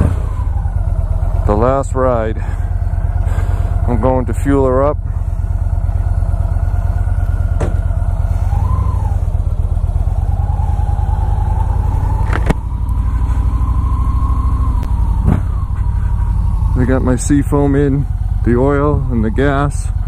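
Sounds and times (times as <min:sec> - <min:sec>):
motorcycle engine pulling away: 0:00.0 - 0:20.0.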